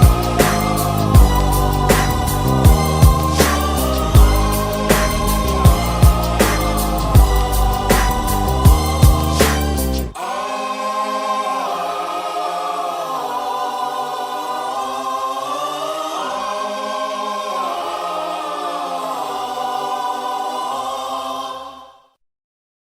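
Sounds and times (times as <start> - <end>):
choir singing held chords: 0.0 - 22.2.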